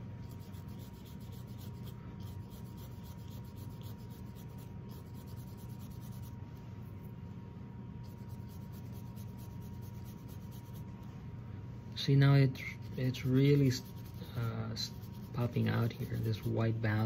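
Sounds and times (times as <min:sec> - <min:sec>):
low steady hum: 0:00.0 - 0:17.0
brush scrubbing on canvas: 0:00.2 - 0:06.7, 0:08.0 - 0:11.1, 0:12.8 - 0:17.0.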